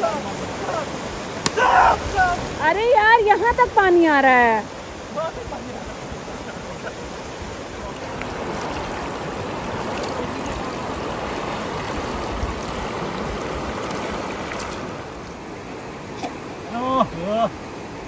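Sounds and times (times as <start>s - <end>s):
river rushing over rocks: 0.0s - 16.8s.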